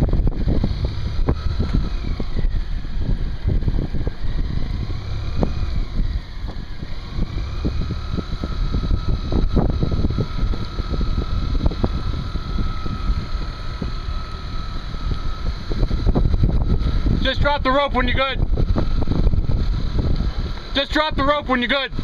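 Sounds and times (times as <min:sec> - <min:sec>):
outboard motor whining under load: 0:00.0 - 0:22.0
wind buffeting microphone: 0:00.0 - 0:22.0.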